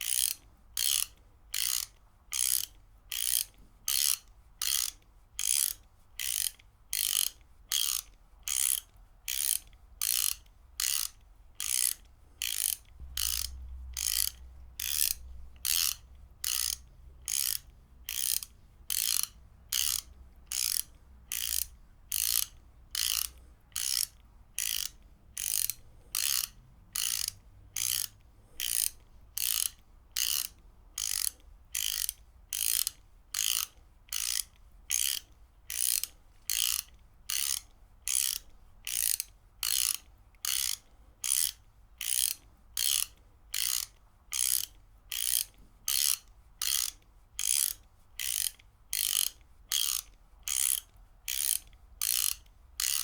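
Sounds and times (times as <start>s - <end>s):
ratchet wrench clicking: 0.0s - 53.0s.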